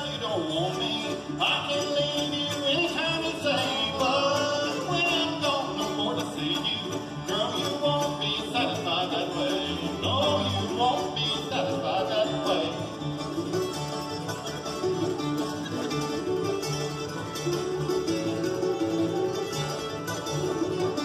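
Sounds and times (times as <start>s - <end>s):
acoustic guitars strumming: 0.0s - 21.0s
mandolin: 0.0s - 21.0s
upright bass: 0.0s - 21.0s.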